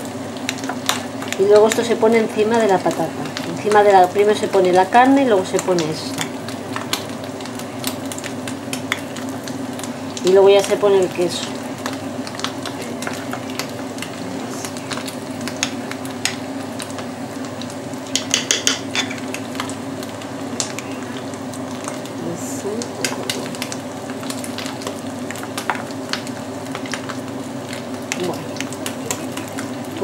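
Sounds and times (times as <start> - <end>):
steady low hum: 0.0 - 30.0
potatoes being mashed in a bowl: 0.4 - 30.0.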